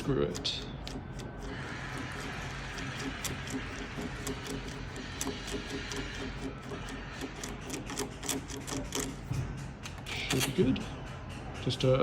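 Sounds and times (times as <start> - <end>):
screwdriver turning screw: 0.0 - 10.8.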